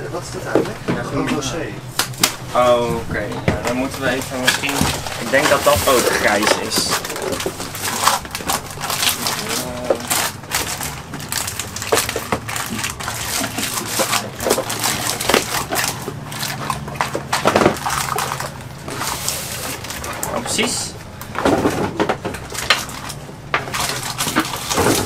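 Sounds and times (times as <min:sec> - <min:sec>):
steady low hum: 0:00.0 - 0:25.0
foil bags crinkling and rustling: 0:02.0 - 0:25.0.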